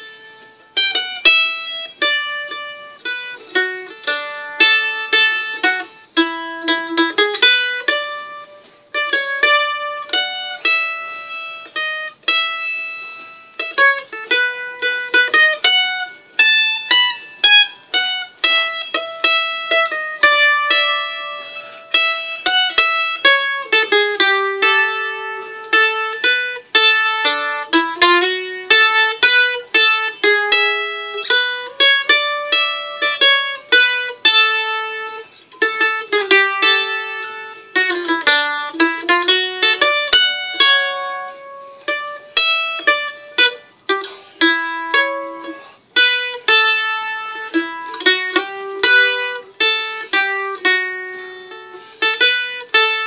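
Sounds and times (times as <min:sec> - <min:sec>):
plucked string instrument melody: 0:00.0 - 0:53.0.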